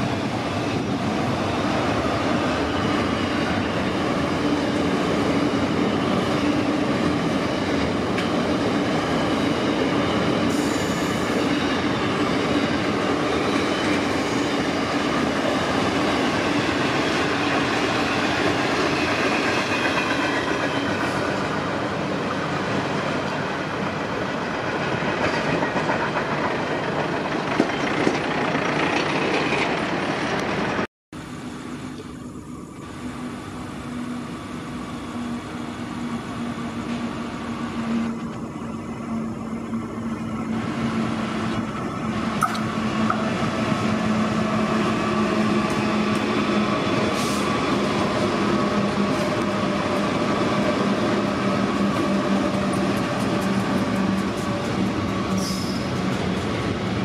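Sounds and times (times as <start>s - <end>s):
diesel locomotive engine drone: 0.0s - 57.0s
train running: 0.0s - 57.0s.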